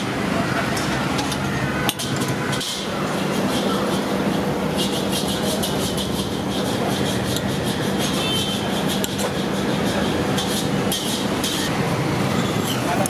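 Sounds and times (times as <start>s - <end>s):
dosa sizzling on a griddle: 0.4s - 11.7s.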